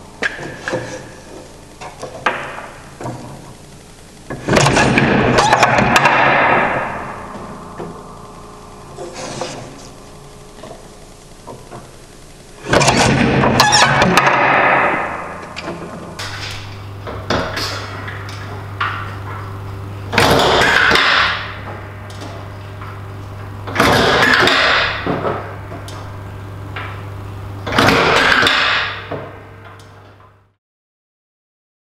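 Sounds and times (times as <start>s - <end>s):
steady low hum: 0.0s - 30.6s.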